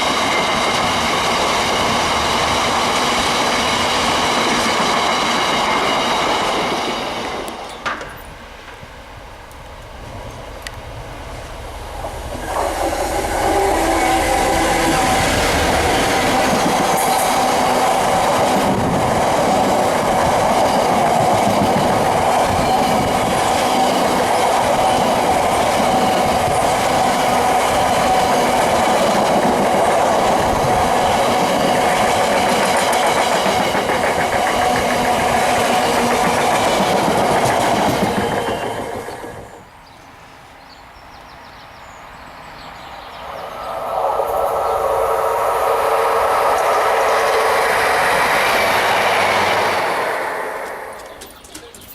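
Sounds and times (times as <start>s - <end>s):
steady tone from wheels and rails: 0.0s - 39.3s, 42.6s - 51.8s
train wheels rumbling and clattering: 0.0s - 39.6s, 43.4s - 51.9s.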